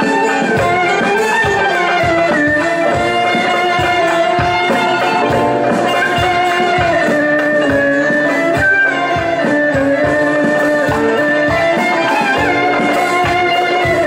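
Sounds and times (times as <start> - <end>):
steady drum beat: 0.0 - 14.0
wavering melody line: 0.0 - 14.0.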